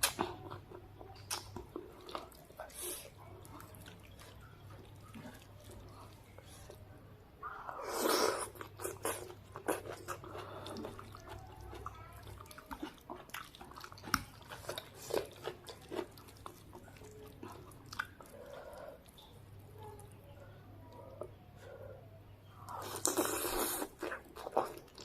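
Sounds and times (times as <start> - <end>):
chewing with wet lip smacks: 0.0 - 6.8, 7.9 - 20.1, 22.6 - 25.0.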